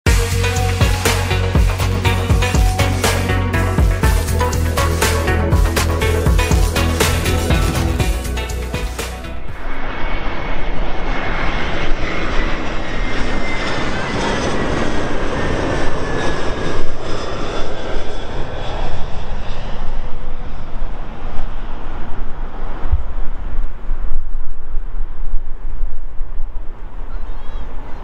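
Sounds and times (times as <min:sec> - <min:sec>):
jet engines rushing: 0:00.1 - 0:28.0.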